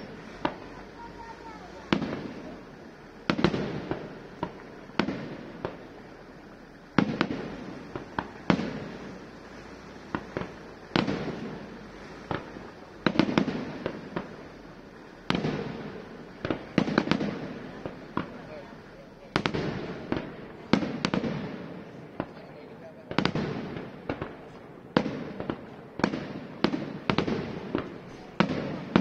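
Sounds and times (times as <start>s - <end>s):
firework shells bursting: 0.0s - 29.0s
small firework pops: 0.0s - 29.0s.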